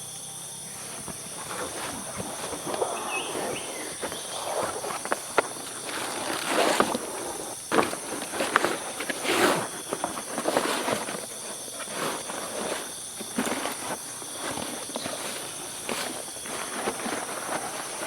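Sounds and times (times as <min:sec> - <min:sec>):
high-pitched insect chorus: 0:00.0 - 0:18.0
rustling and crunching: 0:00.6 - 0:18.0.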